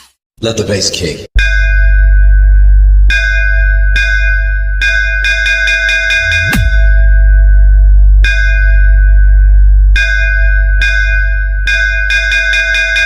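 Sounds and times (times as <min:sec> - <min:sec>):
heavy sub-bass: 0:01.4 - 0:12.3
bass pitch-dive sweep: 0:01.4 - 0:12.4
bell-like synth strikes: 0:01.4 - 0:13.0.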